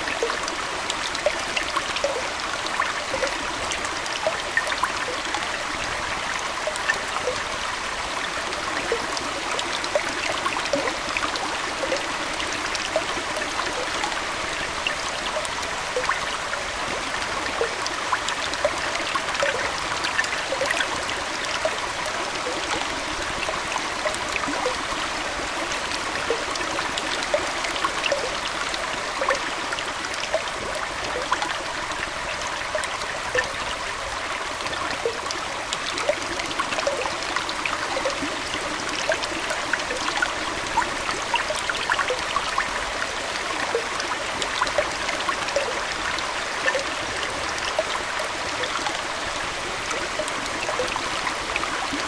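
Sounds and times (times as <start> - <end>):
aquarium water trickling: 0.0 - 52.0.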